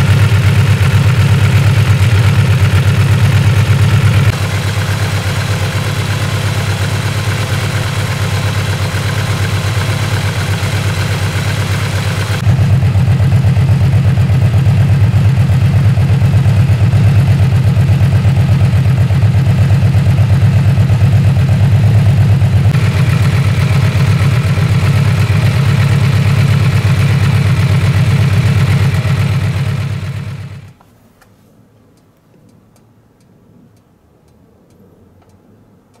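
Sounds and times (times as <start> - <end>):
motorcycle engine idling: 0.0 - 30.8.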